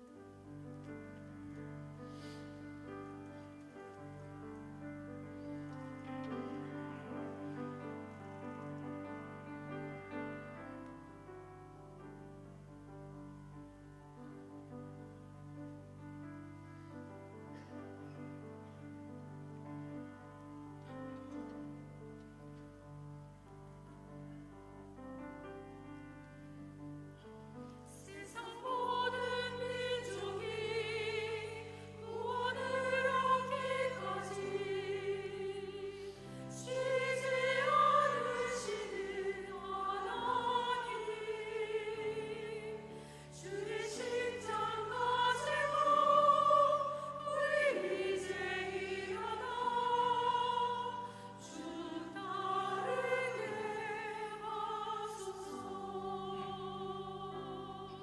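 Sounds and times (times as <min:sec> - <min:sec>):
church choir singing: 0:00.0 - 0:23.1, 0:26.7 - 0:58.0.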